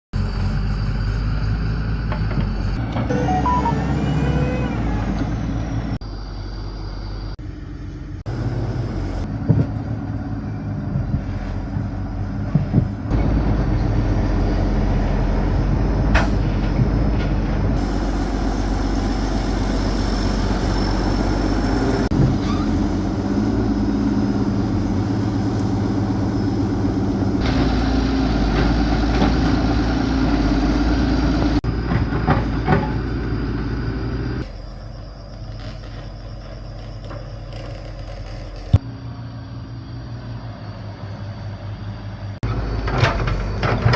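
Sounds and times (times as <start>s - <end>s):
large engine running: 0.2s - 35.3s, 38.4s - 43.9s.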